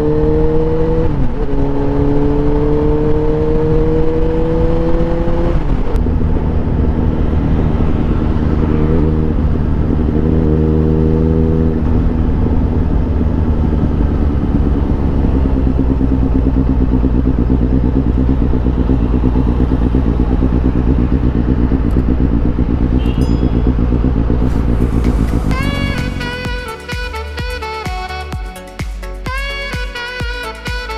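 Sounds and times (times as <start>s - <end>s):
motorcycle engine revving: 0.0s - 28.4s.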